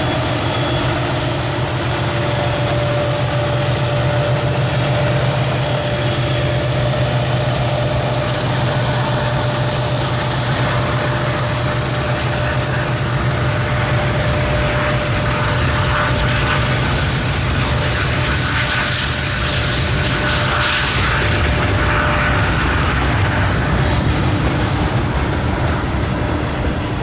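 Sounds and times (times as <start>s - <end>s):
diesel locomotives passing: 0.0s - 27.0s
steady whine: 0.0s - 27.0s.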